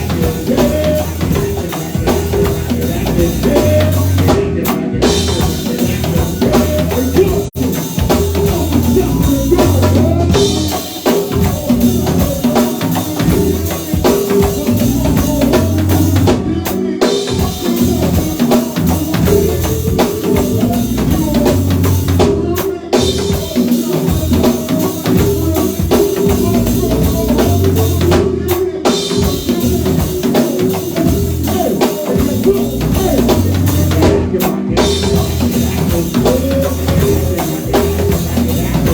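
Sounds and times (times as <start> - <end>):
drum kit beat: 0.0 - 38.9
live band playing: 0.0 - 38.9.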